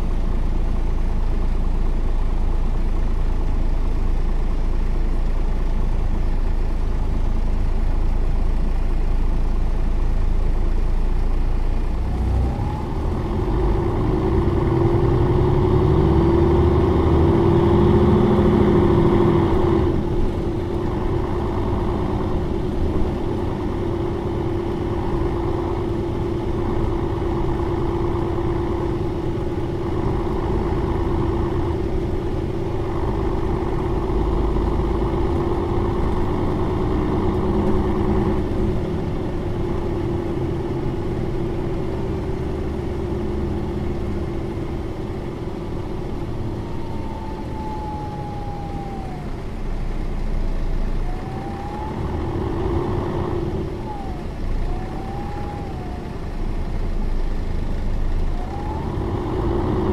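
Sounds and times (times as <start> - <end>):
bus engine running: 0.0 - 59.9
drivetrain whine: 0.0 - 59.9.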